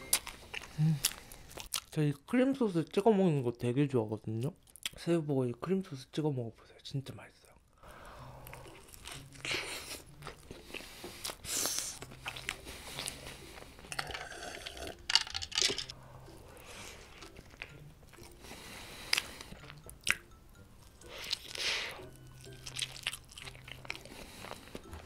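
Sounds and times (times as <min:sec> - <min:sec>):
chewing and crunching food: 0:00.0 - 0:02.1, 0:04.3 - 0:05.0, 0:07.4 - 0:25.0.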